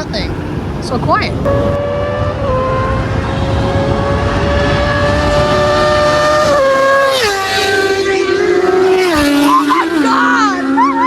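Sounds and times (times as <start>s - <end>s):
car engine at high revs: 0.0s - 11.0s
road and tyre noise: 0.0s - 11.0s.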